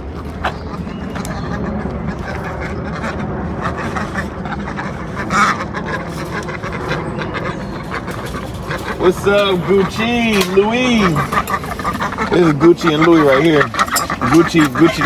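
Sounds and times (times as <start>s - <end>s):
ducks quacking: 0.0s - 15.0s
steady low rumble: 0.0s - 15.0s.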